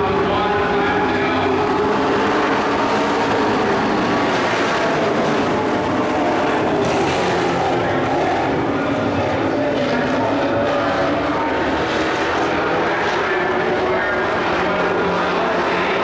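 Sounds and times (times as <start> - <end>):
race truck engines droning: 0.0 - 16.0.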